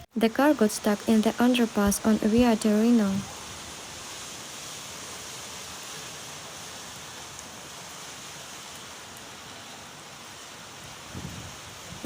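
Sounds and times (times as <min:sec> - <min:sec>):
rain hissing: 0:00.0 - 0:12.0
running floodwater: 0:00.0 - 0:12.0.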